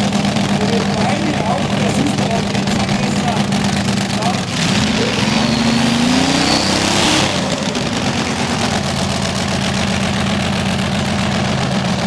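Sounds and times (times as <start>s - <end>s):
aircraft engine revving and idling: 0.0s - 12.0s.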